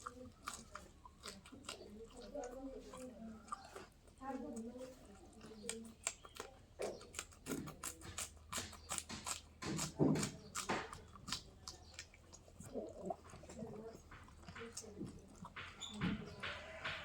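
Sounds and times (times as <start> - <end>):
person chewing and lip smacking: 0.0 - 17.0.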